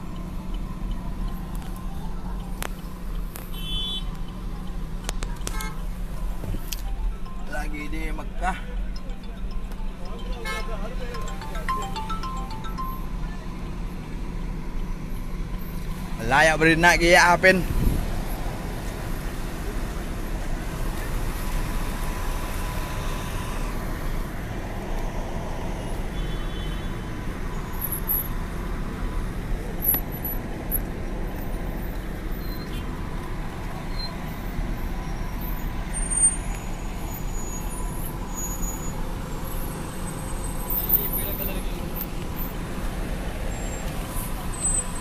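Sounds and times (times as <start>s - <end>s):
car engines in slow traffic: 0.0s - 45.0s.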